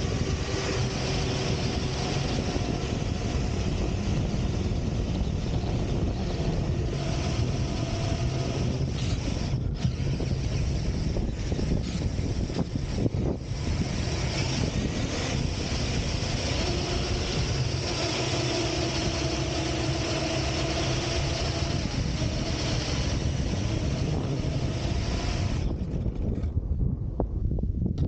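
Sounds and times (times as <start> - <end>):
rc truck motor: 0.0 - 26.6
rushing wind and sand: 0.0 - 28.0.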